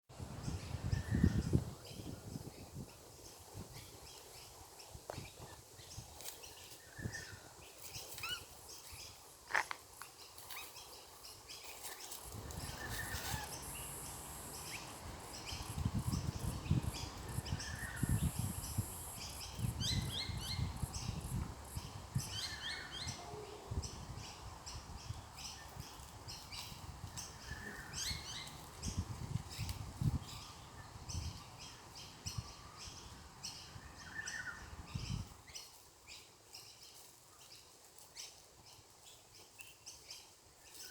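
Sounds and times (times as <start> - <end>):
small birds chirping: 0.4 - 40.9.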